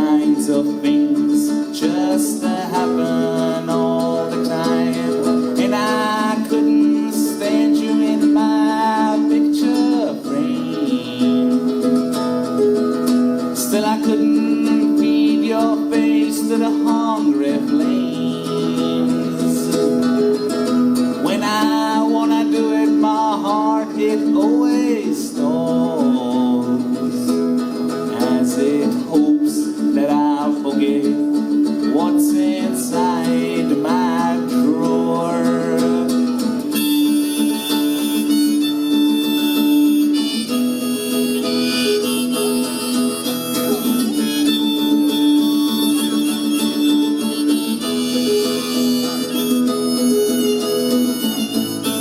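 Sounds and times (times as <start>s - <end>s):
harmonica melody: 0.0s - 30.3s, 31.2s - 52.0s
strummed acoustic guitar: 0.0s - 52.0s.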